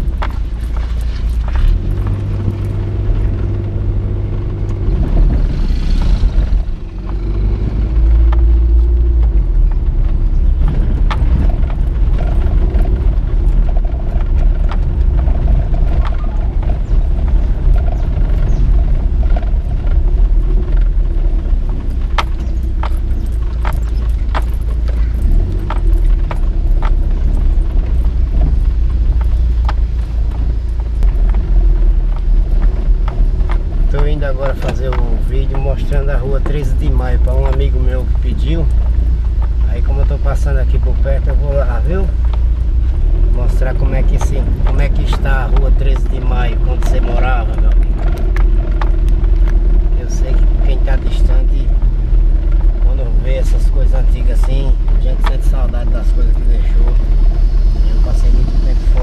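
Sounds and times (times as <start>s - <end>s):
knocks and rattles: 0.0s - 59.0s
vehicle engine rumbling: 0.0s - 59.0s.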